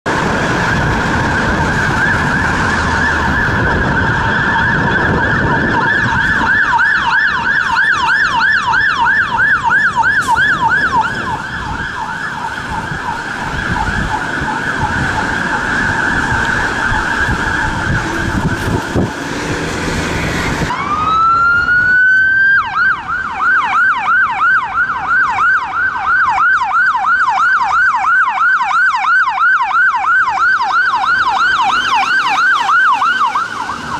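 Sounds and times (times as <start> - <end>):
fire engine siren: 0.0 - 33.9
road and engine noise: 0.0 - 33.9
ambulance siren yelping: 0.1 - 33.9.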